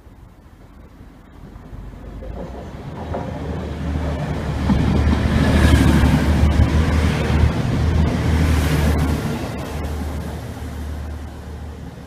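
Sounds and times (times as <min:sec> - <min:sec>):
rushing wheel and rail noise: 0:00.0 - 0:12.0
train engine drone: 0:00.0 - 0:12.0.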